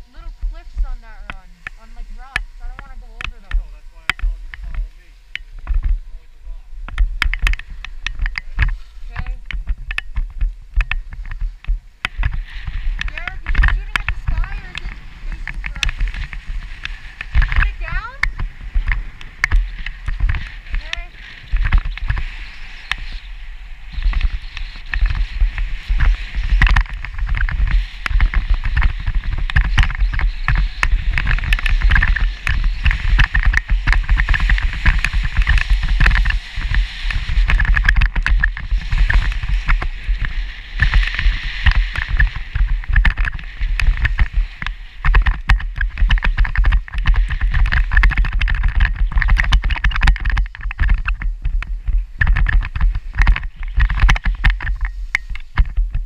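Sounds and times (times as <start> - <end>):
skis scraping over snow: 0.0 - 56.0
wind rumbling on microphone: 0.0 - 56.0.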